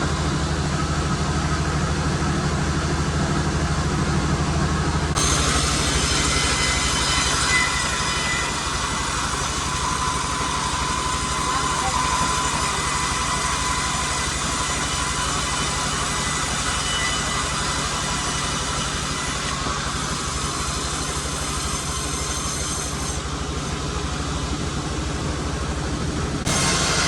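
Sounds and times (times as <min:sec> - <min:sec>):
sawmill machinery droning: 0:00.0 - 0:27.0.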